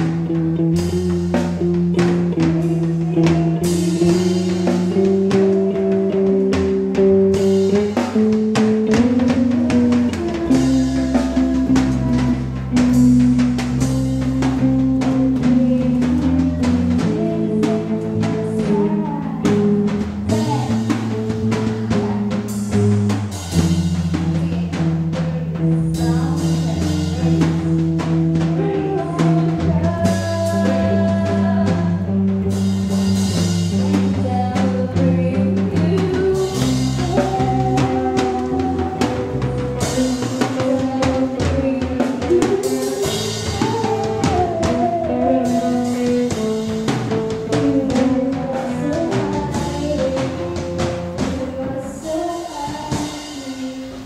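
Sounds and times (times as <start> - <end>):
electric guitar: 0.0 - 54.0
person singing: 0.0 - 54.0.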